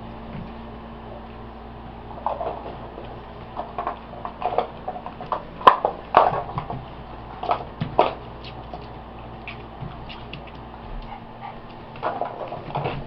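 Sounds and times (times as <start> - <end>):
puppies scuffling: 2.0 - 13.0.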